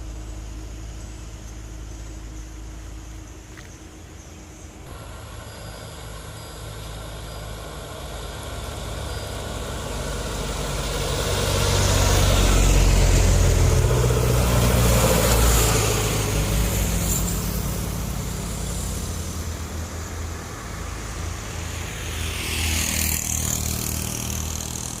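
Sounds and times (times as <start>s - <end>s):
diesel truck engine passing: 4.9s - 25.0s
vehicle passing: 4.9s - 25.0s.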